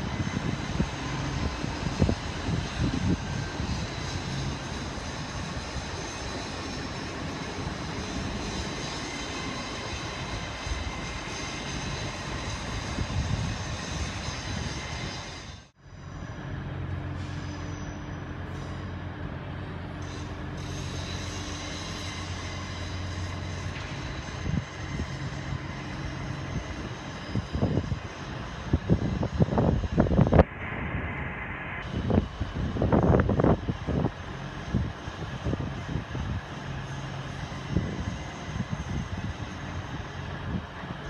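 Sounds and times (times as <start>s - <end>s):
electric train humming: 0.0s - 41.0s
electric train rumbling: 0.0s - 41.0s.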